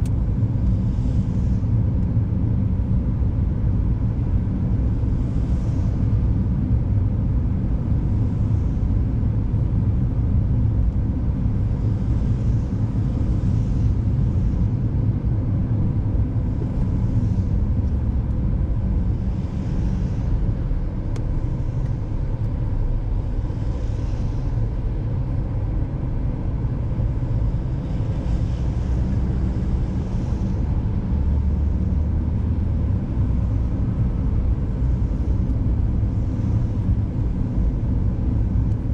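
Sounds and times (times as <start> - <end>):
car tyre and engine rumble: 0.0 - 38.9.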